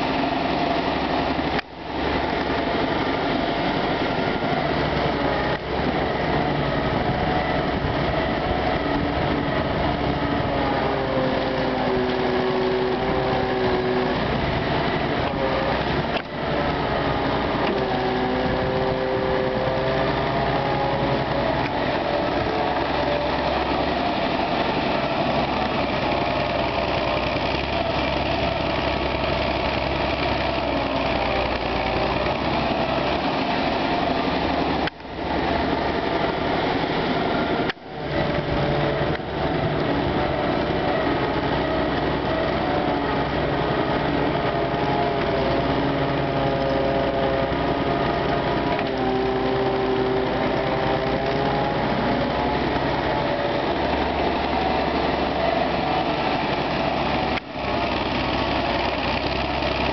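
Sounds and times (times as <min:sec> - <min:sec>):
excavator diesel engine working: 0:00.0 - 0:59.9.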